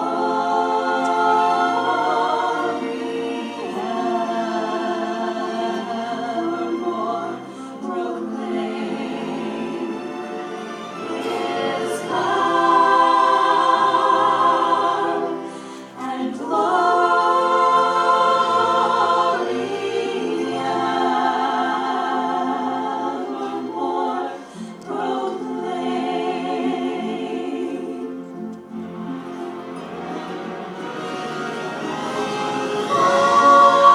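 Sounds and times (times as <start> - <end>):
choir singing sustained chords: 0.0 - 33.9.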